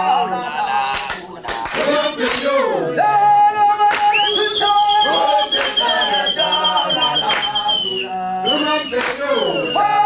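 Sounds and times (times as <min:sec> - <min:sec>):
voices singing together: 0:00.0 - 0:10.0.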